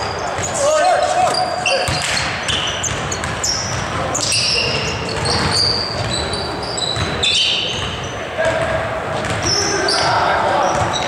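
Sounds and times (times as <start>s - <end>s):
sneaker squeaks: 0.0s - 11.0s.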